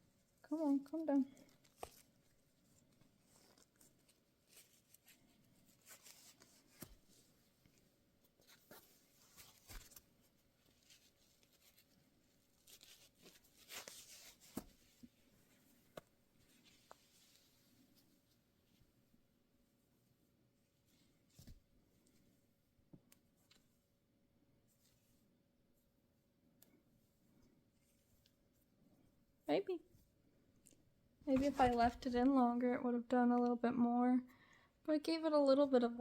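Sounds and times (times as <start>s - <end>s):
rustling of fabric and hair: 0.0s - 32.6s.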